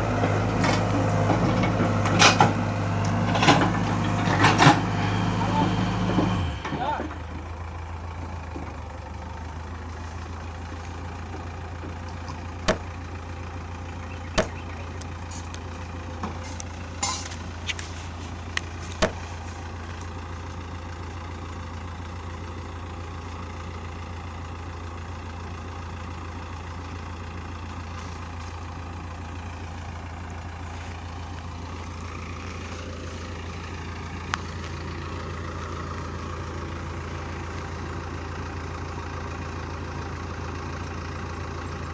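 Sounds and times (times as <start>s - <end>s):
heavy machine engine droning: 0.0s - 41.9s.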